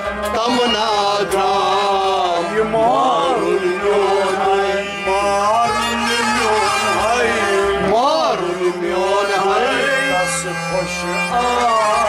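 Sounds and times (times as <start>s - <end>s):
person singing devotional song: 0.1s - 12.0s.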